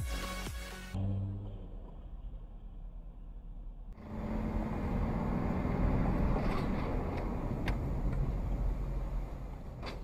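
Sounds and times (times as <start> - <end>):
car road and engine rumble: 1.3 - 10.0.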